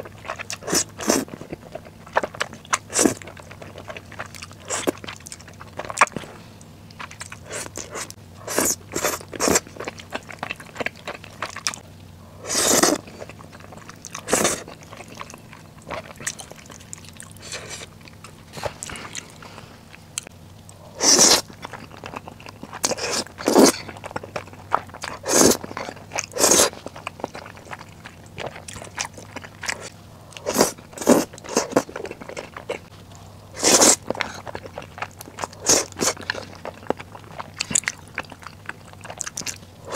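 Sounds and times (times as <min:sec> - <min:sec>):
chewing and smacking: 0:00.0 - 0:39.9
wet noodle slurping: 0:00.3 - 0:01.5, 0:02.1 - 0:06.4, 0:07.0 - 0:11.8, 0:12.4 - 0:17.9, 0:21.0 - 0:21.9, 0:22.7 - 0:27.8, 0:28.4 - 0:32.9, 0:33.5 - 0:39.9.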